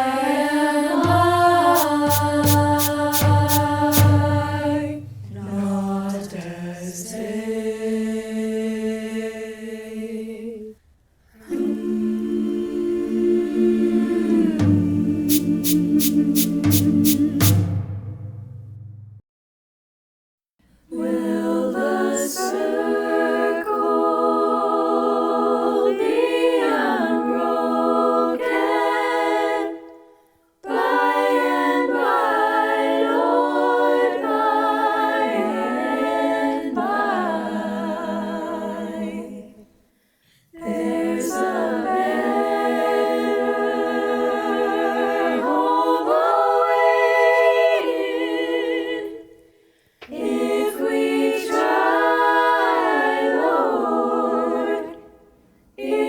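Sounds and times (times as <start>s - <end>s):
girls' choir singing a cappella: 0.0s - 10.8s, 11.4s - 18.0s, 20.9s - 39.7s, 40.5s - 56.0s.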